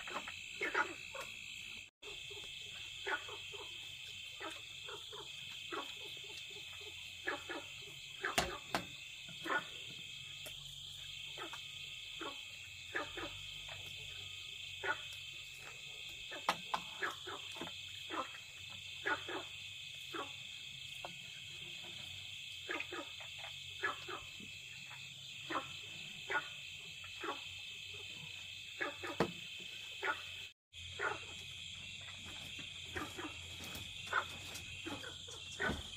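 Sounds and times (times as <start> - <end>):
crickets trilling: 0.0 - 35.9
frog calls: 0.0 - 35.9.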